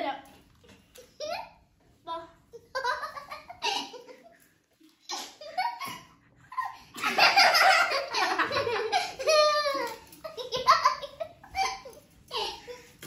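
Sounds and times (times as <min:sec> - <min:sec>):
children laughing: 0:01.0 - 0:01.7, 0:02.5 - 0:13.0.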